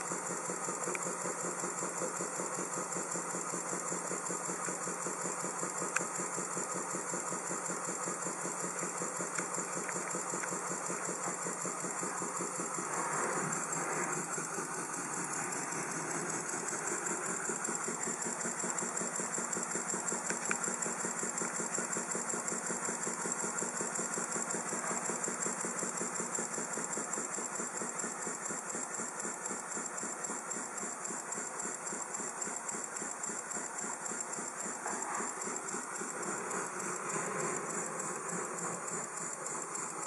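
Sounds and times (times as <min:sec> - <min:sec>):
steady high hiss: 0:00.0 - 0:40.0
steam mill engine beating: 0:00.0 - 0:40.0.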